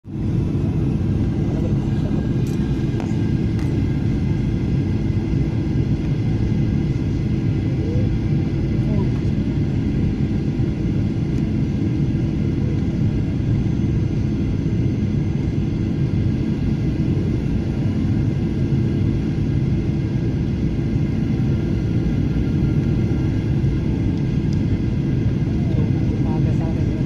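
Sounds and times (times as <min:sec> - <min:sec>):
jet cabin engine rumble: 0:00.1 - 0:27.0.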